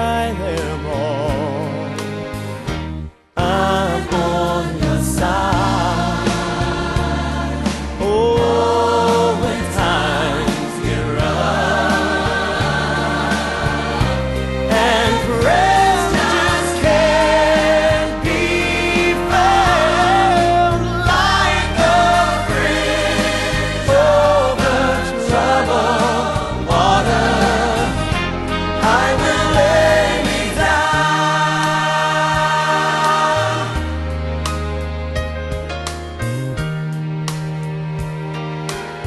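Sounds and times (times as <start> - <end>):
song with singing voices: 0.0 - 35.0.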